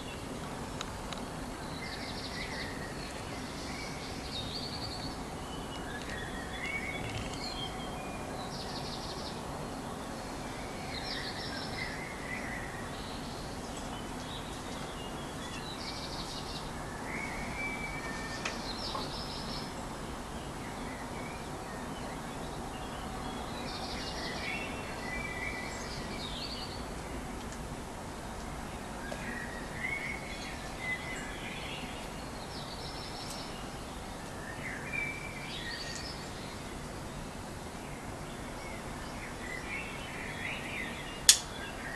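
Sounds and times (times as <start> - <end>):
songbirds singing: 0.0 - 41.9.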